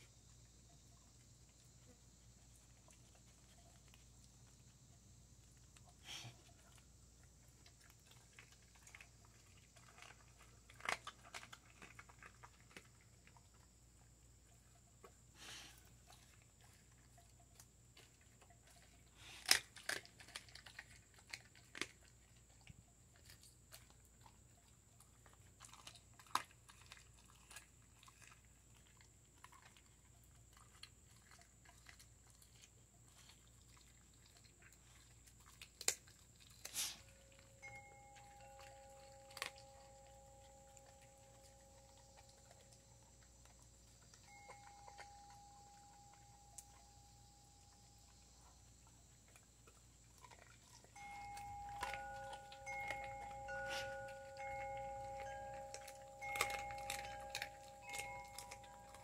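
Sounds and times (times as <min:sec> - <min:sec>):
dog gnawing: 0:01.5 - 0:59.0.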